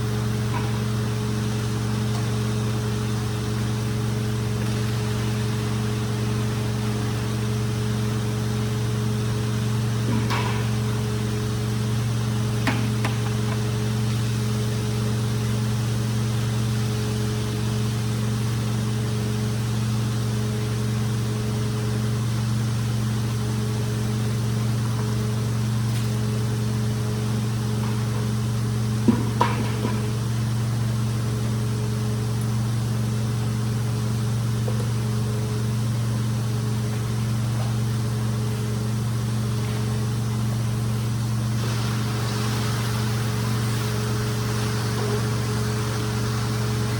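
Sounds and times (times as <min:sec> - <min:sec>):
motor humming steadily: 0:00.0 - 0:46.9.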